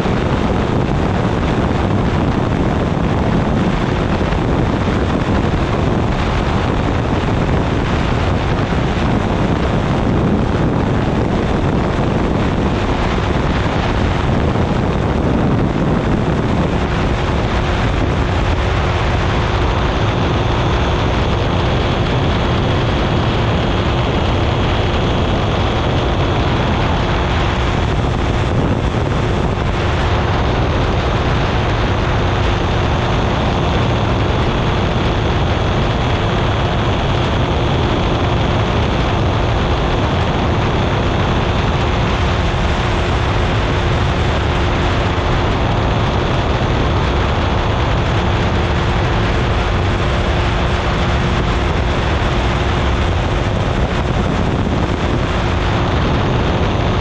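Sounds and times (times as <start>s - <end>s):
engine and propeller droning: 0.0s - 57.0s
wind rushing over microphone: 0.0s - 57.0s.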